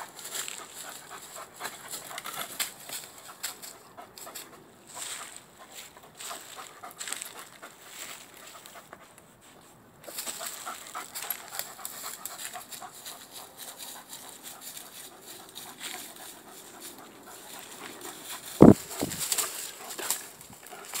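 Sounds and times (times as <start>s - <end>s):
dog panting: 0.0s - 21.0s
paw steps rustling dry leaves: 0.0s - 21.0s.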